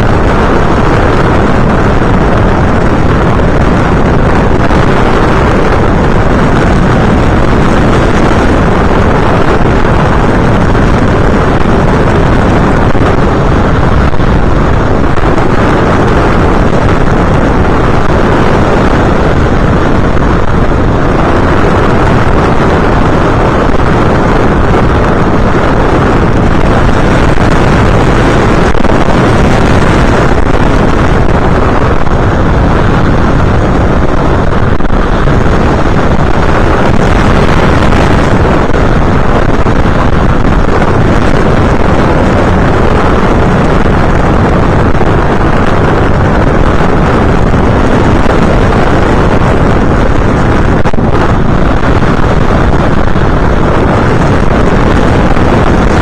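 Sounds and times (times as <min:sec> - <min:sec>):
aircraft motor and airflow: 0:00.0 - 0:56.0
wind buffeting microphone: 0:00.0 - 0:56.0.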